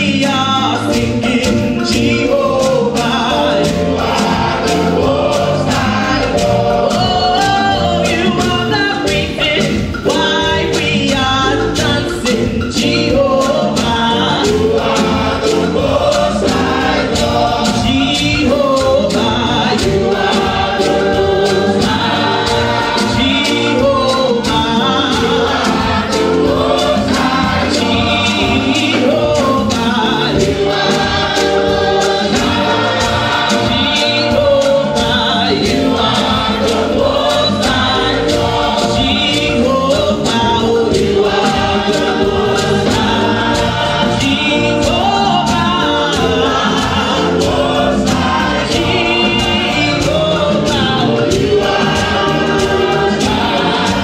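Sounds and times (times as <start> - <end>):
church band playing: 0.0 - 54.0
gospel choir singing: 0.0 - 54.0
steady drum beat: 0.0 - 54.0.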